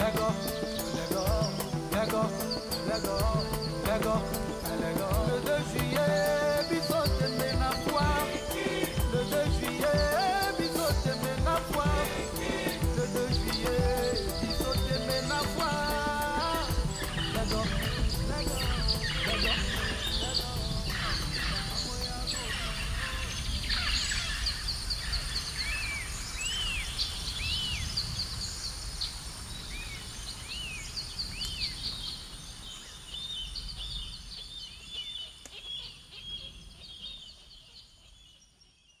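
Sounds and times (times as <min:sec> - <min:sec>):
birds whistling and trilling: 0:00.0 - 0:39.0.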